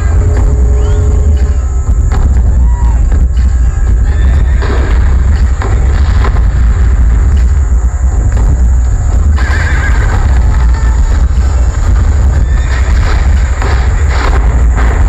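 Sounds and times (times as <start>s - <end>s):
heavy bass rumble: 0.0s - 15.0s.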